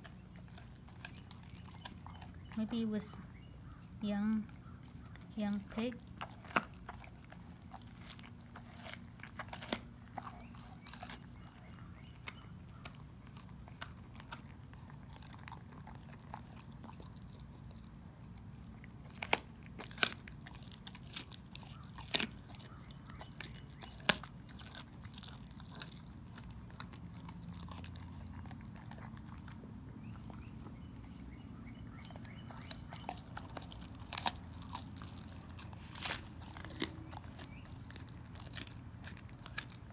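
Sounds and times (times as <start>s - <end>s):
bones crunching: 0.0s - 2.6s, 4.6s - 39.9s
dog chewing and gnawing: 0.0s - 39.9s.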